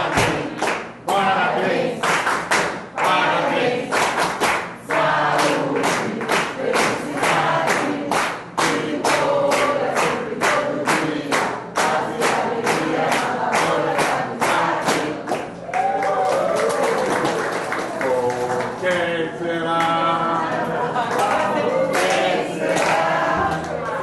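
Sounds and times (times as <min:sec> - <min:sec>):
hands clapping: 0:00.0 - 0:01.2, 0:02.0 - 0:03.2, 0:03.9 - 0:19.1, 0:21.0 - 0:24.0
group of people singing: 0:00.0 - 0:15.6, 0:18.8 - 0:24.0.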